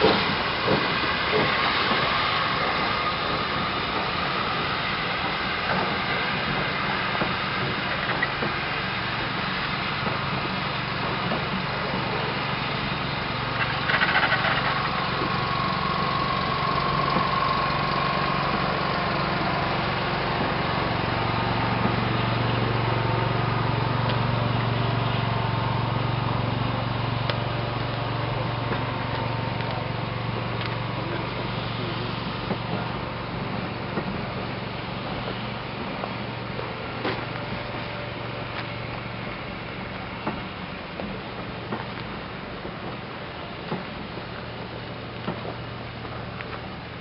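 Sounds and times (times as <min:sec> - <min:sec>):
train coaches rumbling past: 0:00.0 - 0:47.0.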